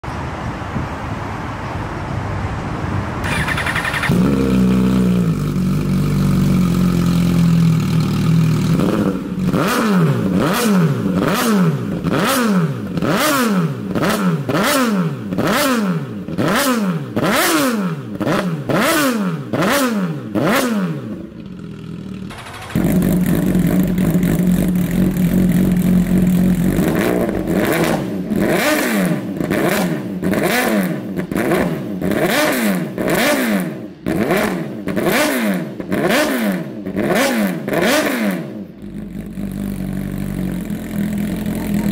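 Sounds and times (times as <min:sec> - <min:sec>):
motorcycle engine revving: 0:03.2 - 0:41.9.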